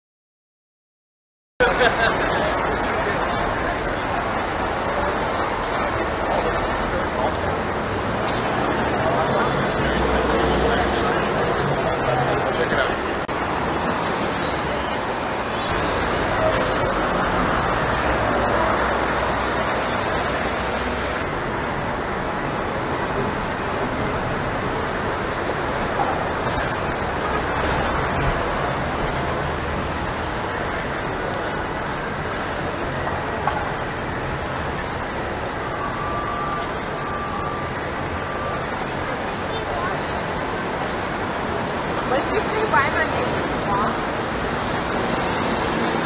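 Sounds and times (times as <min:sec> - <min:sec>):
city street traffic: 0:01.6 - 0:46.0.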